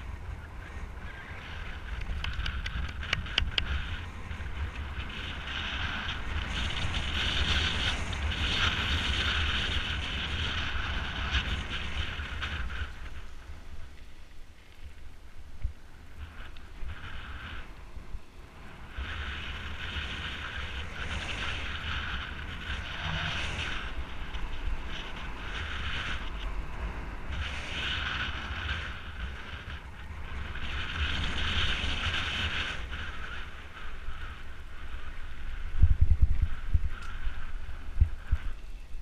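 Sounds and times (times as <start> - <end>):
wind buffeting microphone: 0.0 - 39.0
rushing hiss of moving bike: 2.8 - 14.2, 14.9 - 38.5.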